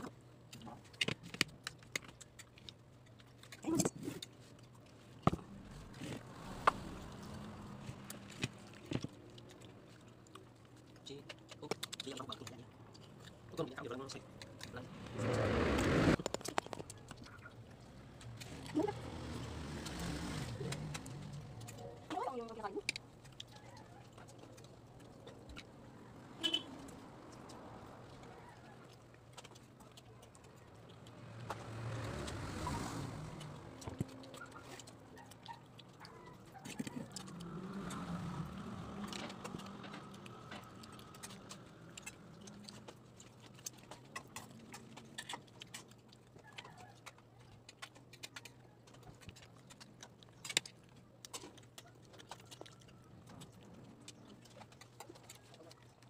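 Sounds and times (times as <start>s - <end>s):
chewing food: 0.0s - 56.0s.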